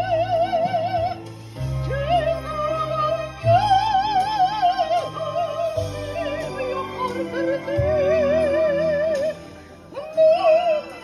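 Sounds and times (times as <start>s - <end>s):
operatic soprano singing: 0.0s - 11.0s.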